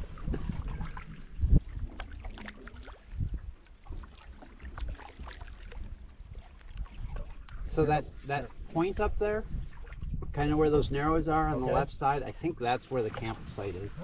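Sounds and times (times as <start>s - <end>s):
paddle strokes splashing water: 0.0s - 10.4s, 12.7s - 14.0s
wind rumble on microphone: 0.0s - 14.0s.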